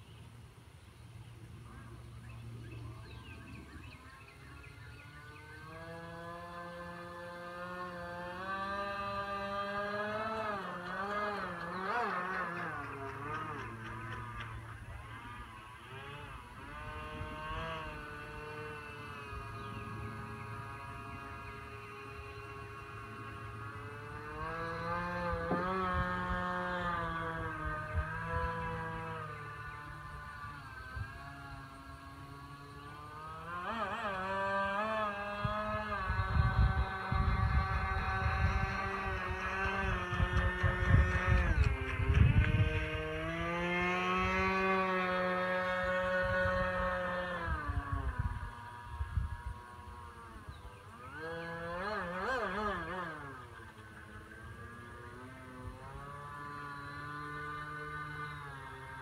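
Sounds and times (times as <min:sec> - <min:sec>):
electric motor and propeller whine: 0:00.0 - 0:59.0.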